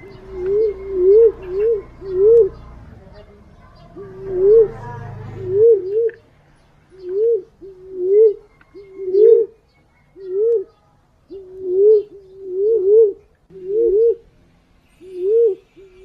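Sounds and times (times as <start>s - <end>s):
pigeon cooing: 0.0s - 6.3s, 6.9s - 14.3s, 14.9s - 16.0s.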